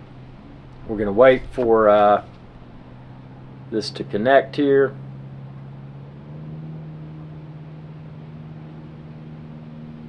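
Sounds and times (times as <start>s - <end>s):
even pitched tones: 0.0s - 10.0s
low mechanical hum: 0.0s - 10.0s.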